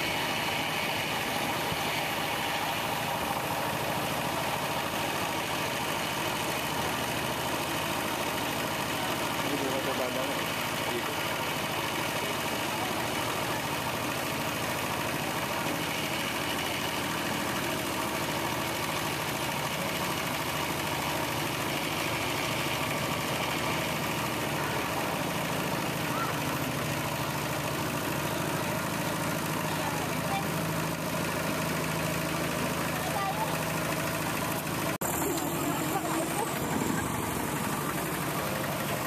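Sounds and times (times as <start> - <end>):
small vehicle engine running: 0.0 - 39.0.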